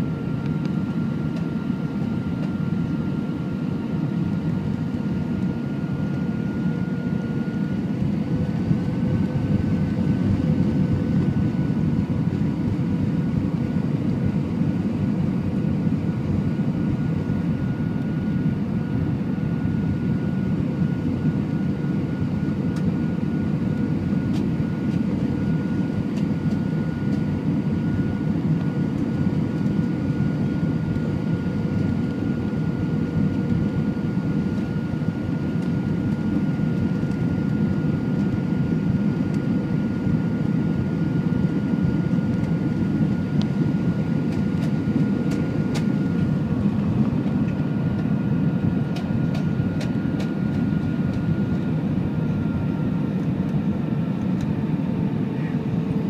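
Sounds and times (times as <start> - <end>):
faint steady whine: 0.0 - 56.0
jet engine and airflow rush: 0.0 - 56.0.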